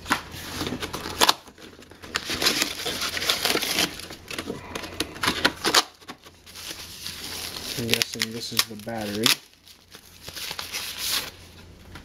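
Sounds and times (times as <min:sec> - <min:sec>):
plastic wrap rustling on cardboard: 0:00.0 - 0:12.0.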